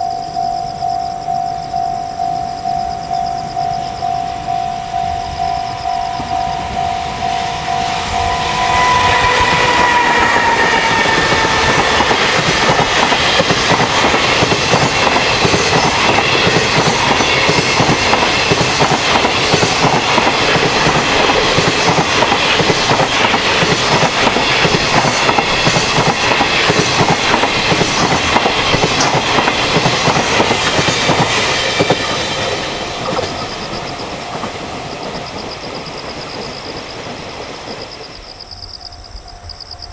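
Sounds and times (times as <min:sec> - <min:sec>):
level-crossing warning bell: 0:00.0 - 0:39.9
train wheels clattering: 0:06.2 - 0:38.4.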